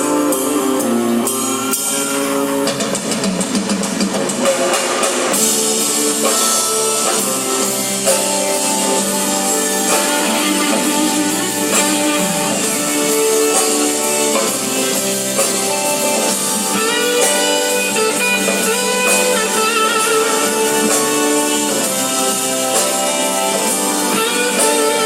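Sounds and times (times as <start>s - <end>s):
drums: 0.0s - 25.0s
electric guitar lead: 0.0s - 25.0s.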